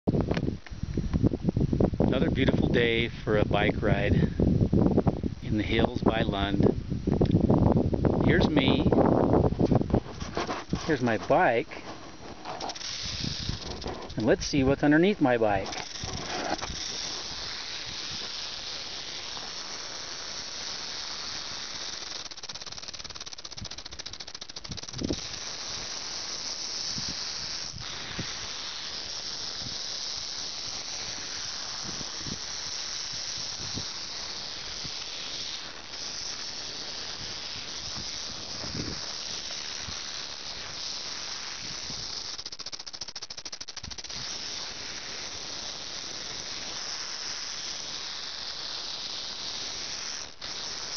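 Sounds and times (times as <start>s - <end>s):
rattlesnake rattling: 0.1s - 50.9s.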